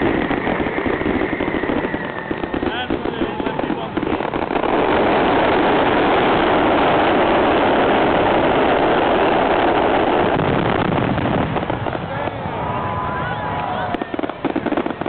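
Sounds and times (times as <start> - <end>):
fireworks barrage: 0.0 - 15.0.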